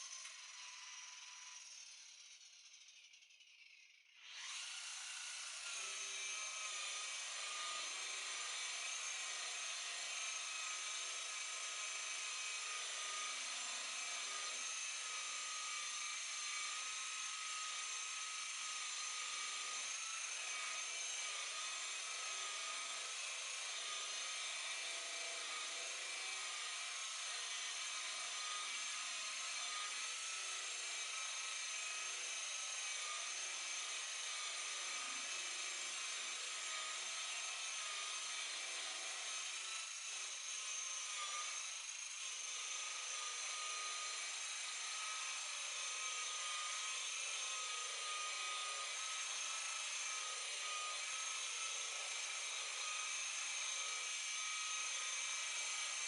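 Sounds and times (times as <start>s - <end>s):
electric polisher motor whining: 0.0s - 1.7s, 4.2s - 56.0s.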